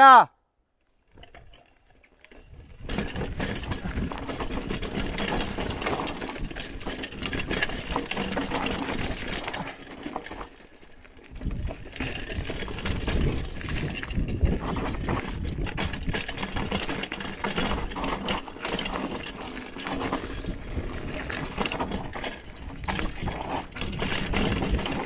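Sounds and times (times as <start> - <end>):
mountain bike rattling on dirt trail: 0.8 - 25.0.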